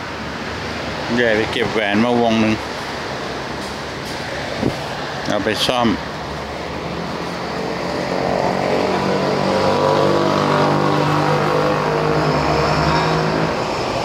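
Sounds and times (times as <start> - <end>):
vehicle engine running steadily: 0.0 - 14.0.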